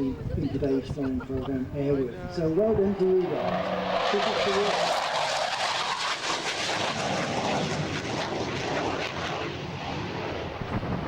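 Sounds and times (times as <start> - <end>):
jet flying: 1.9 - 11.0.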